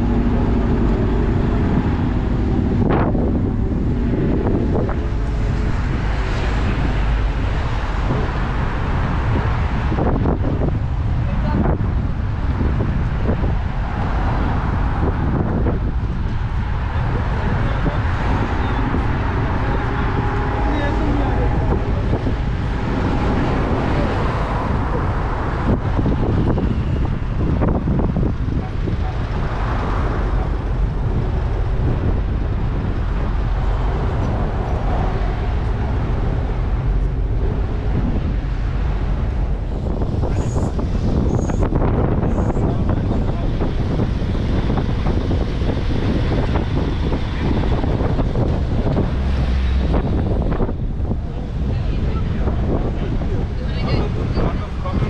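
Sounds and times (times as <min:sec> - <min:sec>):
road traffic: 0:00.0 - 0:55.0
wind on microphone: 0:00.0 - 0:55.0.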